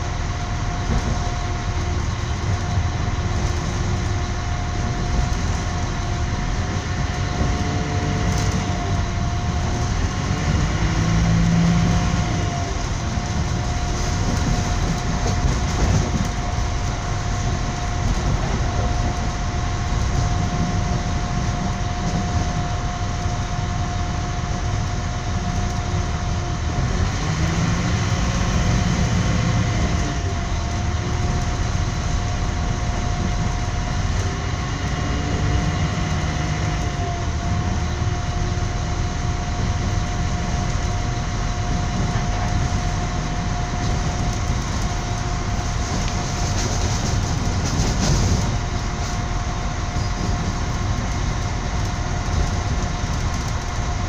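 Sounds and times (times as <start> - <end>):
constant whining tone: 0.0 - 54.0
train rumble: 0.0 - 54.0.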